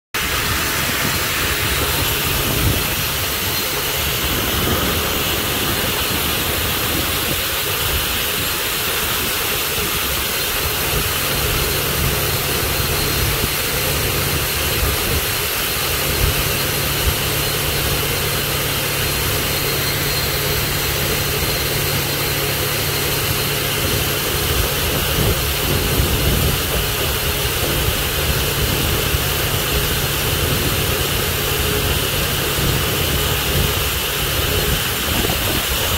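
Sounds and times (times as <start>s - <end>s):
low pump hum: 0.2s - 35.9s
water streams rushing: 0.2s - 35.9s.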